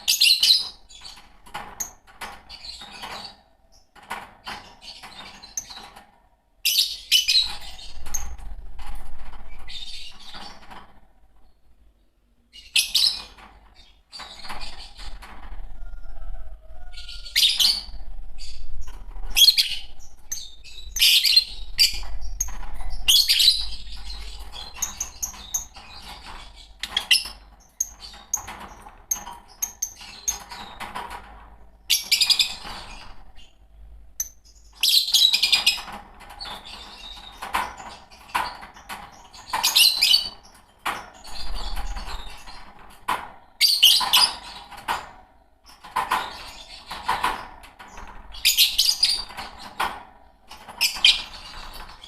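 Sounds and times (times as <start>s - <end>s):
birds twittering chatter: 0.0s - 52.0s.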